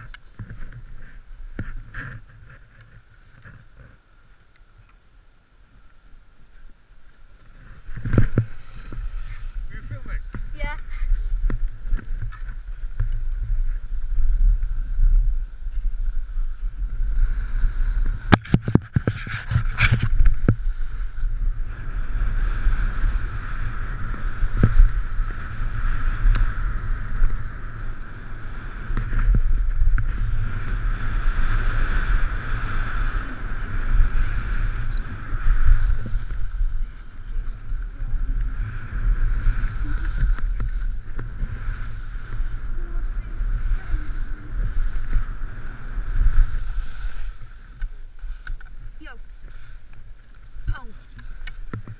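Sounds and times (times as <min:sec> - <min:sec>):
wind buffeting microphone: 0:00.0 - 0:04.0, 0:06.2 - 0:51.9
skis scraping over snow: 0:00.0 - 0:51.9.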